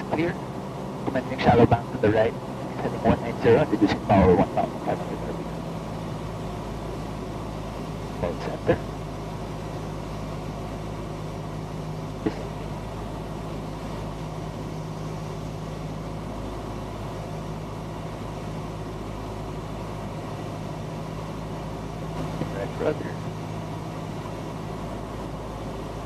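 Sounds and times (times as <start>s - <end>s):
airplane engine droning: 0.0s - 26.0s.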